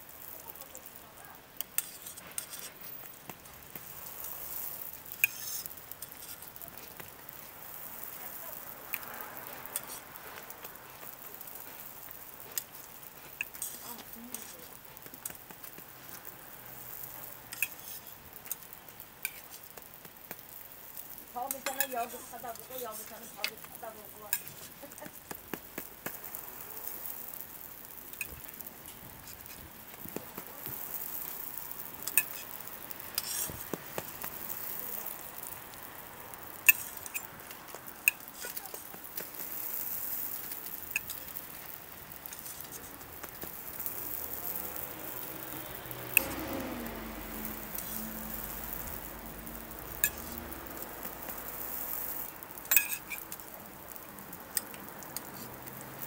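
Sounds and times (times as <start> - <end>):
food sizzling on a griddle: 0.0 - 56.0
metal utensils clinking on griddle: 1.6 - 27.4, 28.1 - 35.5, 36.5 - 46.8, 47.4 - 49.0, 49.9 - 53.4.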